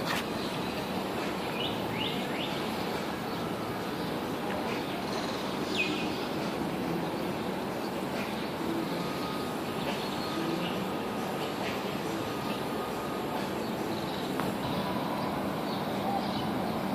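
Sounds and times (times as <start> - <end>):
city traffic hum: 0.0 - 16.9.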